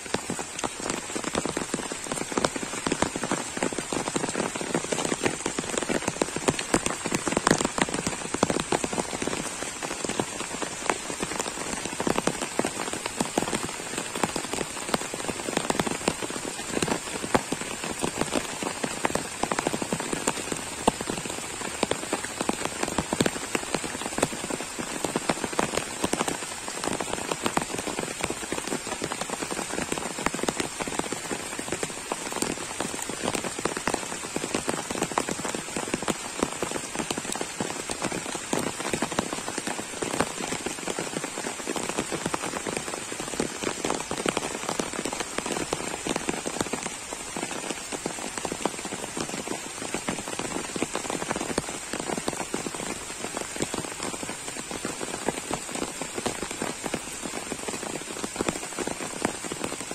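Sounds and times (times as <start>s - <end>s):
heavy rain on a pond and leaves: 0.0s - 59.9s.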